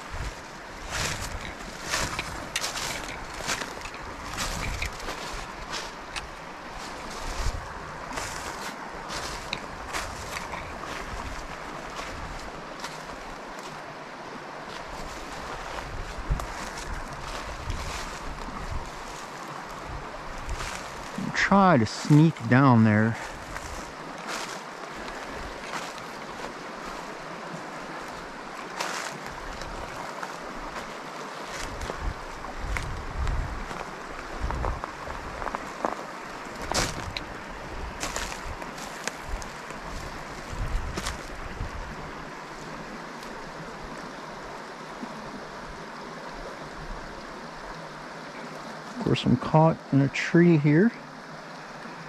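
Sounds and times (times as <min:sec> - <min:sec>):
footsteps crunching frozen leaves: 0:00.0 - 0:13.8, 0:14.7 - 0:43.6
stream water rushing: 0:00.0 - 0:52.0.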